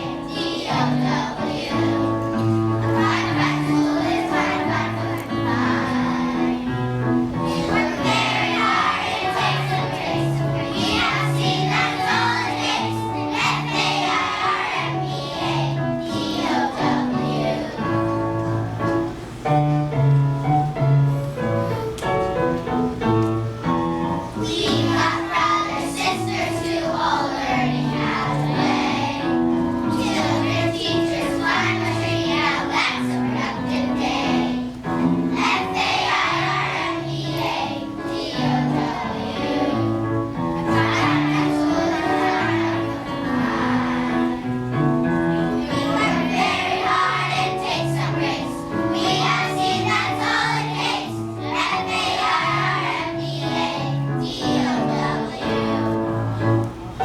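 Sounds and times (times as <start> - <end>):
children singing together: 0.0 - 20.0, 21.4 - 57.0
backing music: 0.0 - 57.0.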